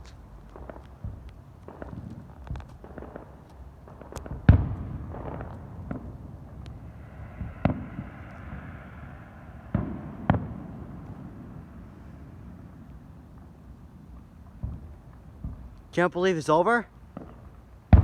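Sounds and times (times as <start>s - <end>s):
fireworks bangs: 0.0s - 18.0s
fireworks crackling and popping: 0.0s - 18.0s.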